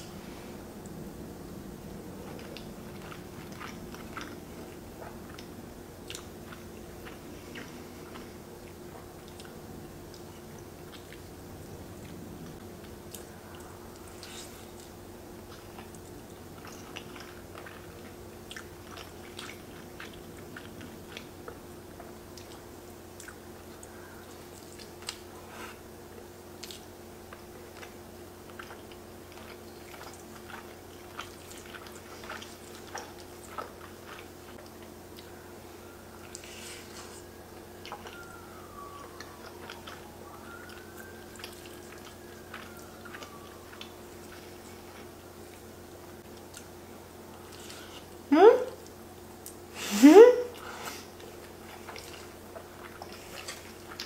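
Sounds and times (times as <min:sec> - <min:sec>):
steady low hum: 0:00.0 - 0:54.0
chewing noodles: 0:02.1 - 0:49.7, 0:50.6 - 0:54.0.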